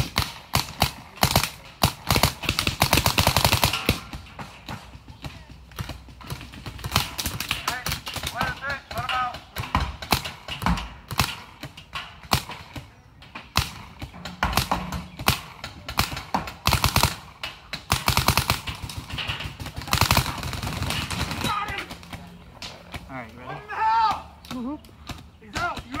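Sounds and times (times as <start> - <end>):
paintball markers firing: 0.0 - 23.4, 24.0 - 26.0.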